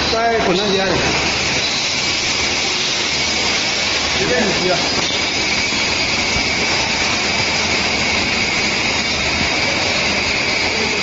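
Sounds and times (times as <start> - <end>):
machine hiss with high whine: 0.0 - 11.0.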